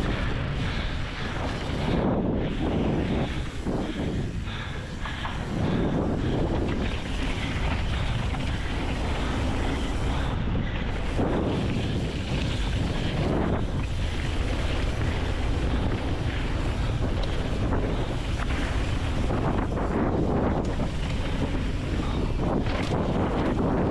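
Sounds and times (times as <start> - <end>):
bike tyres rolling on dirt trail: 0.0 - 23.9
wind rushing over microphone: 0.0 - 23.9.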